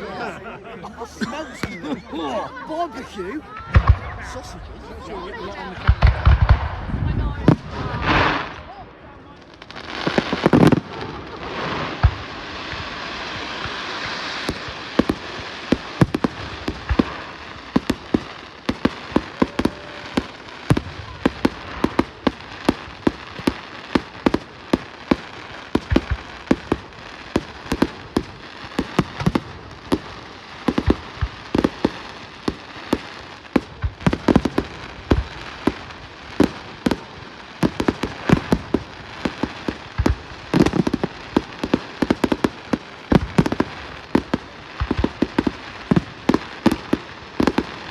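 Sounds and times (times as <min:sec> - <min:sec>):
fireworks bangs and cracks: 0:01.0 - 0:47.9.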